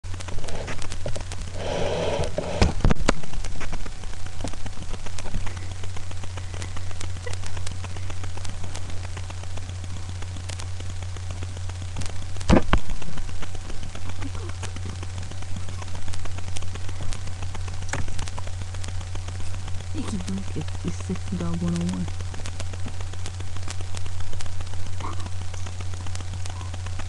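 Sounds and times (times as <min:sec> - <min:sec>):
background hiss: 0:00.0 - 0:27.0
steady low hum: 0:00.0 - 0:27.0.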